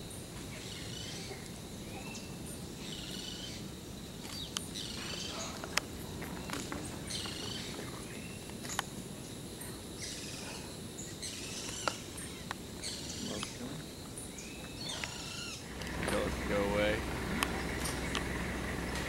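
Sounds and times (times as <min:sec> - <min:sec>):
birds calling: 0:00.0 - 0:19.0
low background noise: 0:00.0 - 0:19.0.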